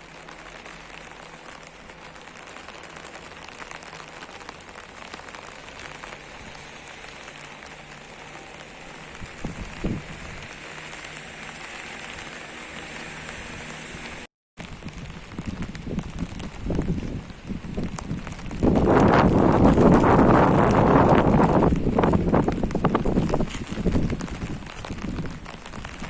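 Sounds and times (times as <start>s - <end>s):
rain on hard surfaces: 0.0s - 26.0s.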